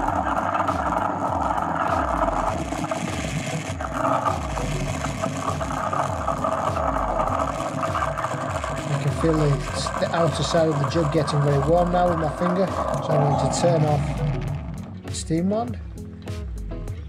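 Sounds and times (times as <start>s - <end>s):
steam wand hissing in milk: 0.0s - 14.2s
low pulsing rumble: 0.0s - 15.4s.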